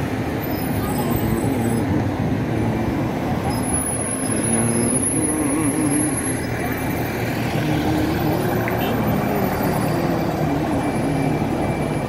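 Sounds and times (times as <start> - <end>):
bus engine rumbling: 0.0 - 12.0
street traffic: 0.0 - 12.0.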